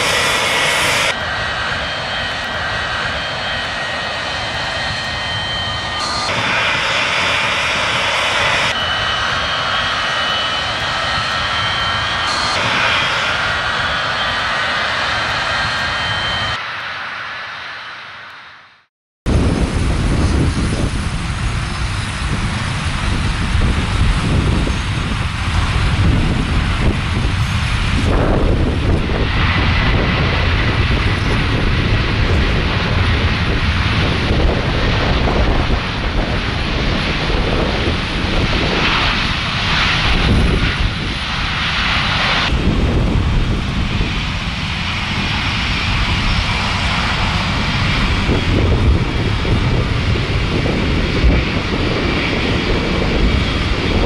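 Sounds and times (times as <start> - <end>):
jet engines running loudly: 0.0 - 54.0.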